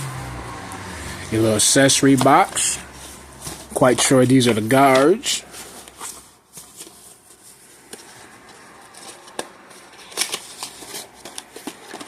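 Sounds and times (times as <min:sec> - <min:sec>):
plastic packaging rustling: 0:01.3 - 0:12.0.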